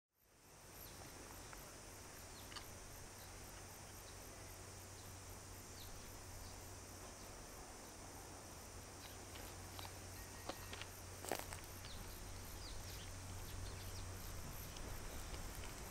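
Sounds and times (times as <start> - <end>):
insects buzzing: 0.2 - 15.9
low steady hum: 0.2 - 15.9.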